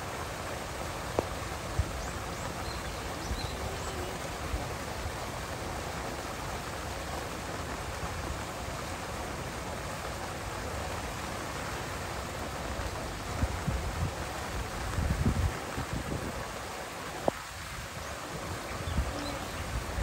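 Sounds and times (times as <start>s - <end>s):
falling water hiss: 0.0s - 20.0s.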